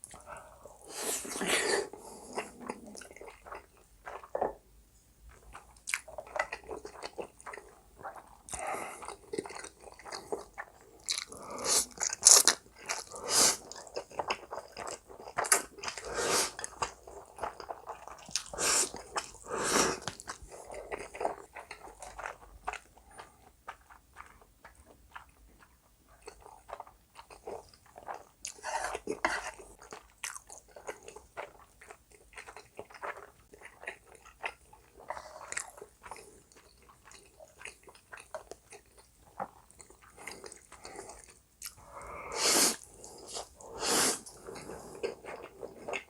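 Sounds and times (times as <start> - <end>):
chewing with wet mouth noises: 0.0 - 46.0.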